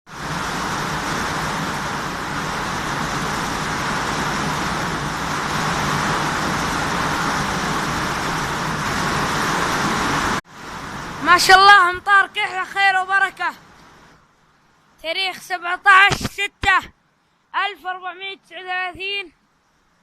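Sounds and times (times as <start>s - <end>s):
heavy rain pouring: 0.1s - 20.0s.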